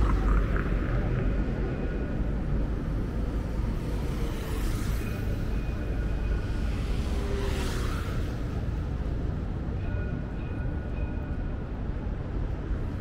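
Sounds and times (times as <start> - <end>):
cars passing: 0.0 - 13.0
low traffic rumble: 0.0 - 13.0.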